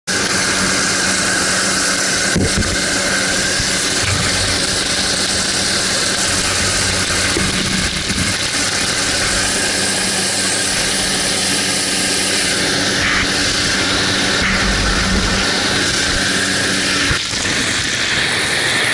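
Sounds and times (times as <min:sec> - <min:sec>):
light aircraft engine: 0:00.1 - 0:18.9.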